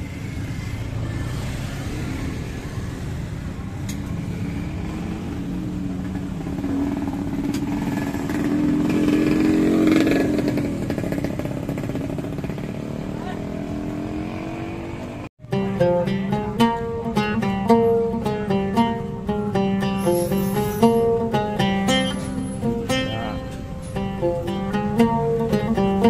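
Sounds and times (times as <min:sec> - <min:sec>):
motorcycle engine passing: 0:00.0 - 0:26.0.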